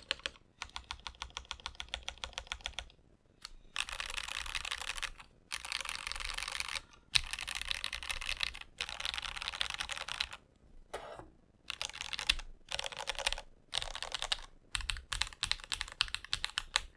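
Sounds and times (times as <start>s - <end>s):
fast typing on mechanical keyboard: 0.0s - 2.9s, 3.8s - 10.4s, 11.7s - 16.9s.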